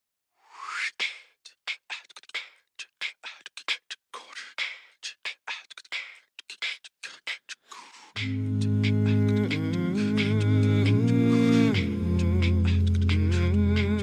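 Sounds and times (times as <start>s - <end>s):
beatboxed percussion: 0.4s - 14.0s.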